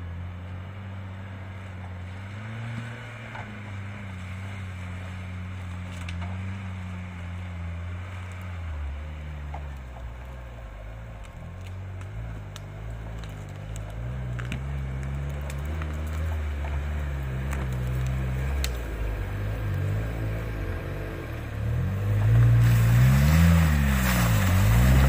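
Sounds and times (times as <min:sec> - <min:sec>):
vehicle engine at low revs: 0:00.0 - 0:25.0.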